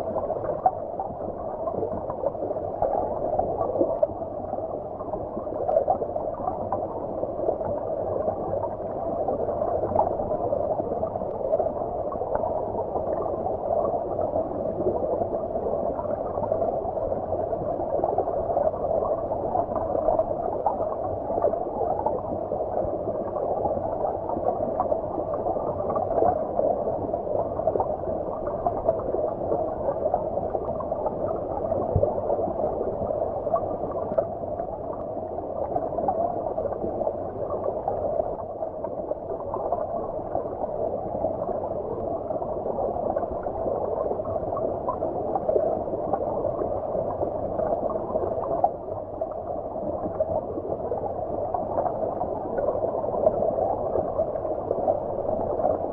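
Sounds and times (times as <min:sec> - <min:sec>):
muffled underwater stream gurgling: 0:00.0 - 0:55.9.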